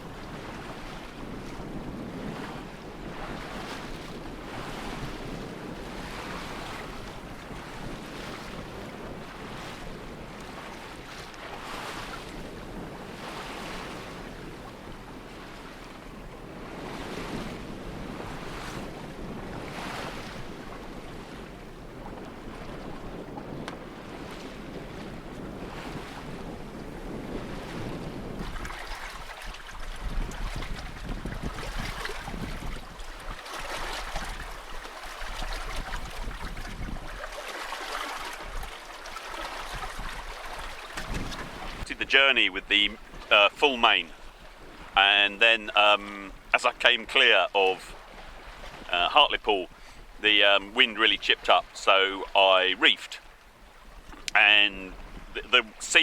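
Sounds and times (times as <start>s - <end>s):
wind buffeting microphone: 0.0s - 43.3s, 44.1s - 45.0s, 47.8s - 48.9s, 53.3s - 55.4s
water splashing against boat hull: 0.0s - 56.0s.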